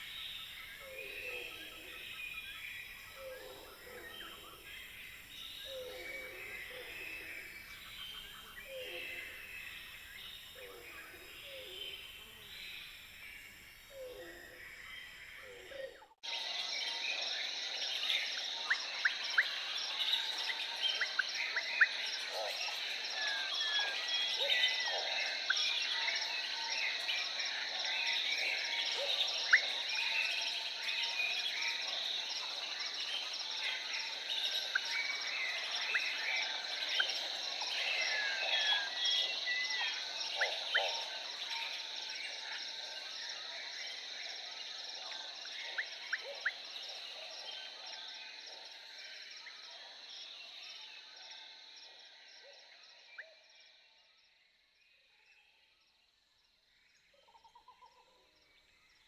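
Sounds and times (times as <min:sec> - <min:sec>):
insect chorus buzzing and trilling: 0:00.0 - 0:59.0.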